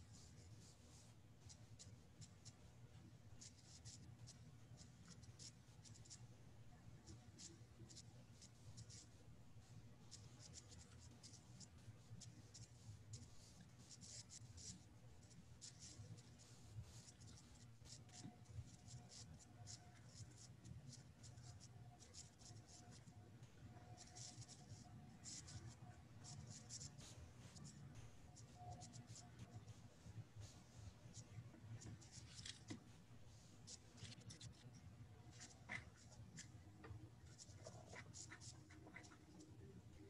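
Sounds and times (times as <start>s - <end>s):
pen scratching on paper: 3.4s - 6.3s, 7.0s - 9.1s, 10.1s - 36.6s, 37.2s - 40.0s.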